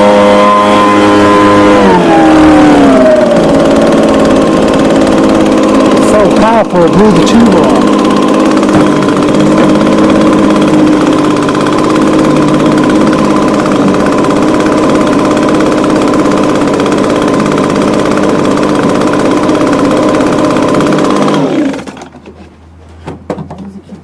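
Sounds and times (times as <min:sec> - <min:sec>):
two-stroke engine idling: 0:00.0 - 0:22.0.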